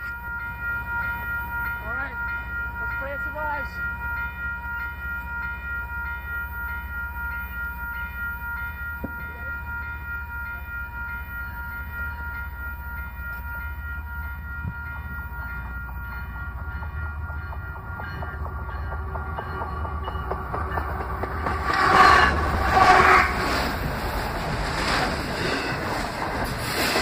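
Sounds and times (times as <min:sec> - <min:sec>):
high ringing tone: 0:00.0 - 0:24.5
train low rumble: 0:00.0 - 0:27.0.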